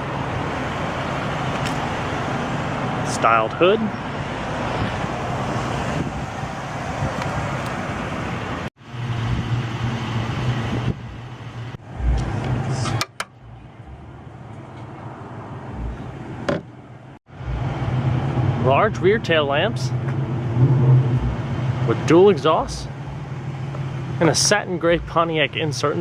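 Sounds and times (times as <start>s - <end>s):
car engine idling: 0.0s - 26.0s
outdoor background noise: 0.0s - 26.0s.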